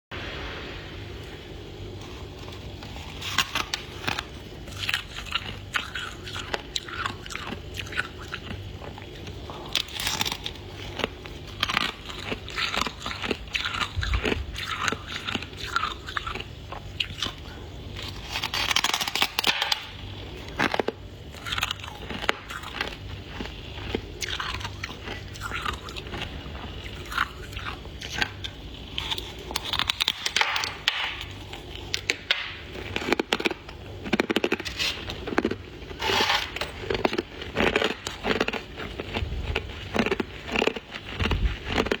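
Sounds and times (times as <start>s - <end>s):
steady low hum: 0.1s - 42.0s
frost being bitten and chewed: 1.9s - 42.0s.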